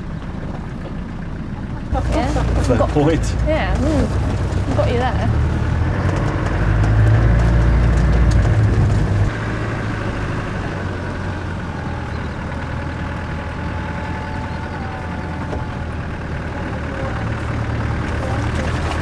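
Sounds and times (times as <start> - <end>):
car engine running: 0.0 - 19.0
rough-track driving noise: 0.0 - 19.0.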